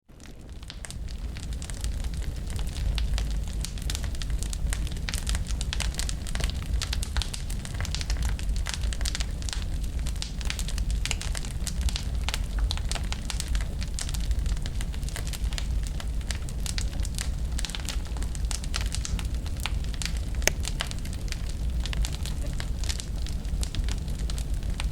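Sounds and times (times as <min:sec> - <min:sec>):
low rumble of flames: 0:00.1 - 0:24.9
wood fire pops and snaps: 0:00.1 - 0:24.9.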